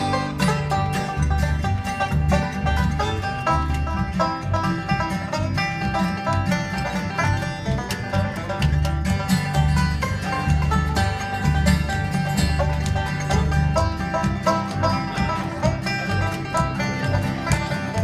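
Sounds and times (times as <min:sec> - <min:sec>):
acoustic guitar strumming: 0:00.0 - 0:18.0
banjo picking: 0:00.0 - 0:18.0
upright bass notes: 0:00.0 - 0:18.0.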